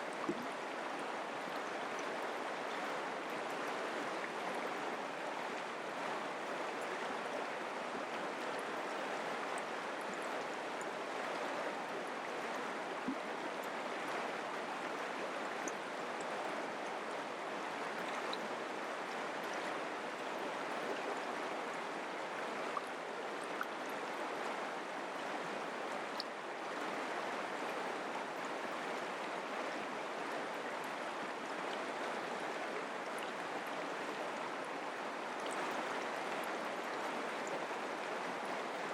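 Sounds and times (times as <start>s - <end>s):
creek water rushing: 0.0s - 38.9s.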